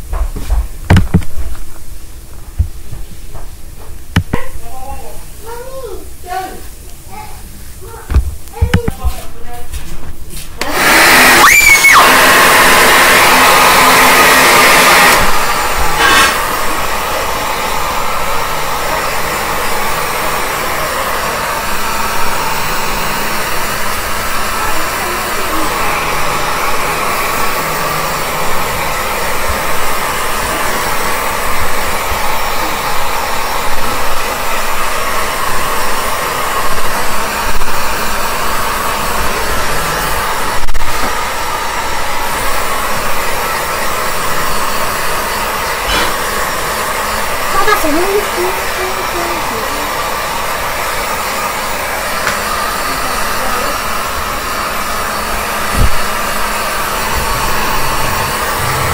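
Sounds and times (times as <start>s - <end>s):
hair dryer blowing: 0.0s - 9.5s, 10.4s - 58.9s.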